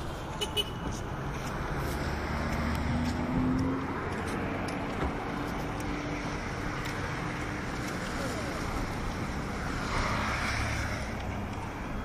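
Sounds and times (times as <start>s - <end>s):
road traffic noise: 0.0s - 12.0s
vehicle engine hum: 0.0s - 12.0s.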